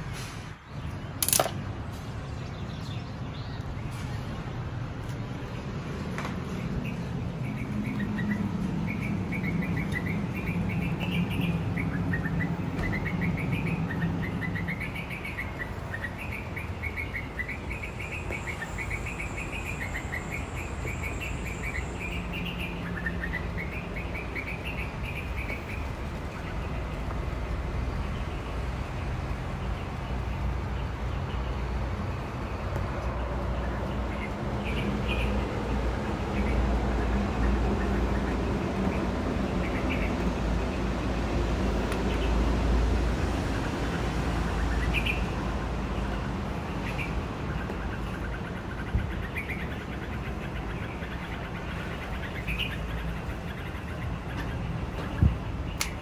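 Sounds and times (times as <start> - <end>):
small birds chirping: 0.1 - 56.0.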